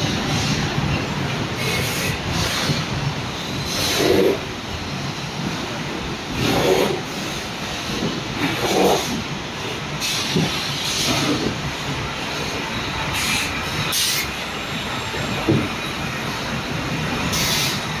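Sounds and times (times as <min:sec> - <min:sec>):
production-line machinery running: 0:00.0 - 0:18.0.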